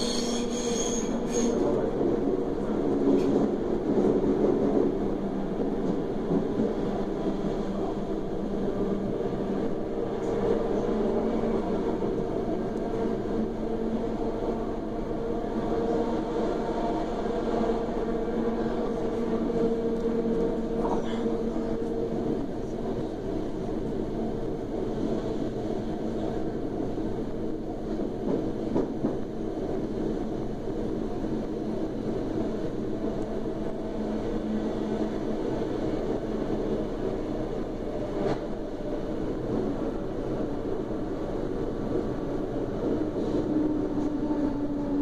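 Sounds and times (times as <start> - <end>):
electric train hum: 0.0 - 45.0
rumble of train running gear: 0.0 - 45.0.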